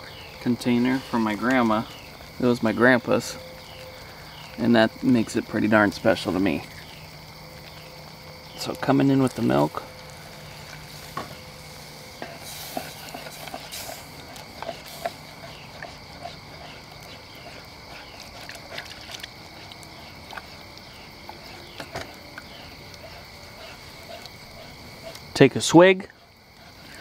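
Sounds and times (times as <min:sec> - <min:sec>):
insect buzzing: 0:00.0 - 0:27.0
milk hissing in hot pan: 0:00.8 - 0:27.0.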